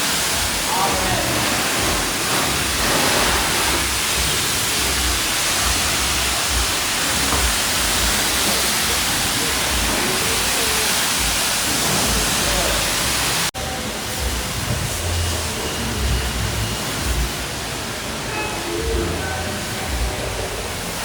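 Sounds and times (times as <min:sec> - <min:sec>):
high-pressure water spraying: 0:00.0 - 0:21.0.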